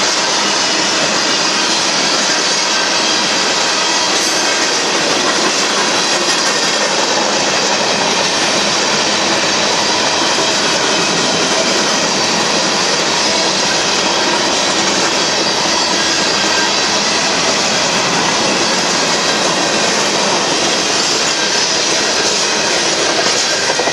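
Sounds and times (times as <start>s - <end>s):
freight train wheels on rails: 0.0s - 23.9s.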